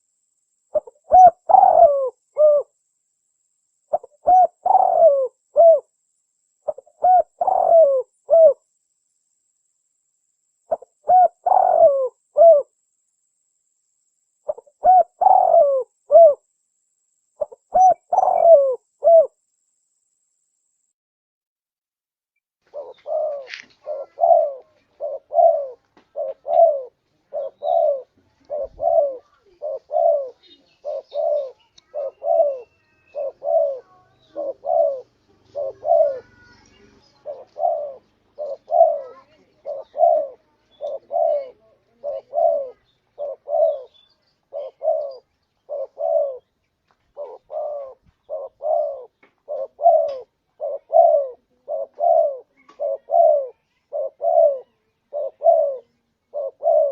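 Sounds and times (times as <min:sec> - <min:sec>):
dove cooing: 0:00.7 - 0:02.8, 0:03.9 - 0:06.0, 0:06.6 - 0:08.7, 0:10.7 - 0:12.8, 0:14.4 - 0:16.5, 0:17.4 - 0:19.4, 0:22.7 - 0:56.9.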